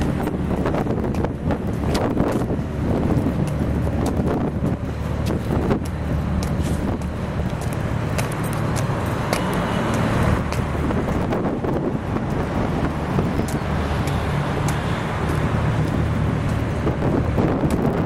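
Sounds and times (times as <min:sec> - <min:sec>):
boat engine droning: 0:00.0 - 0:18.0
wind on microphone: 0:00.0 - 0:18.0.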